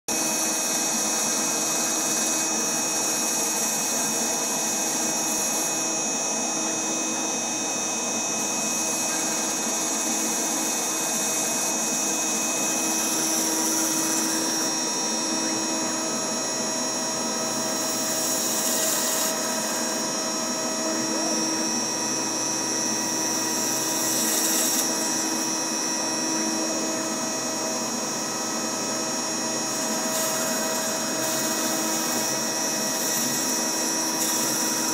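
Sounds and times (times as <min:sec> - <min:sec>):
router spindle whining: 0:00.1 - 0:34.9
bit cutting foam hiss: 0:00.2 - 0:34.9.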